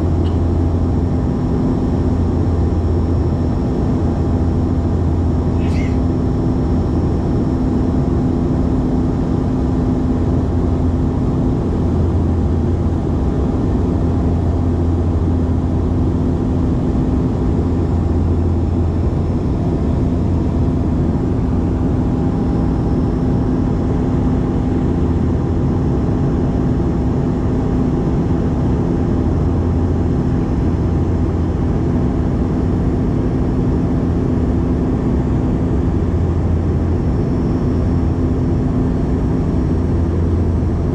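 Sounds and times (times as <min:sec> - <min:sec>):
airliner cabin propeller drone: 0:00.0 - 0:40.9.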